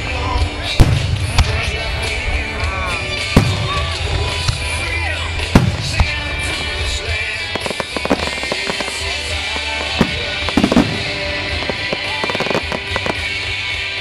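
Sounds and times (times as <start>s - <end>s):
background music: 0.0s - 14.0s
fireworks crackling: 0.0s - 14.0s
fireworks booming: 0.6s - 13.9s.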